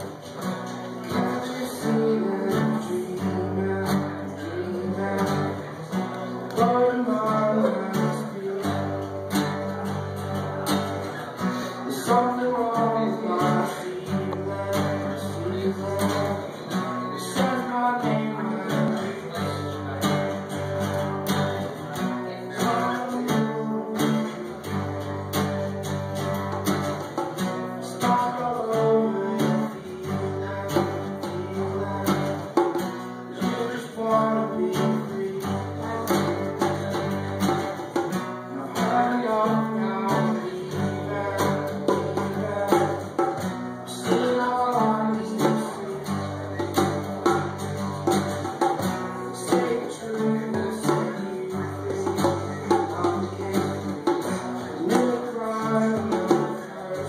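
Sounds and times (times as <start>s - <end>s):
acoustic guitars: 0.0s - 57.0s
man singing: 0.0s - 57.0s.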